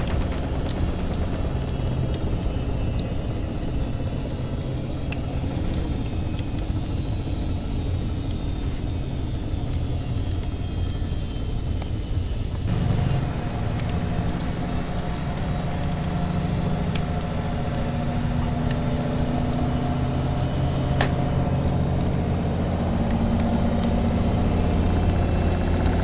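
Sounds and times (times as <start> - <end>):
washing machine humming: 0.0 - 26.0
wood fire crackling: 0.0 - 26.0.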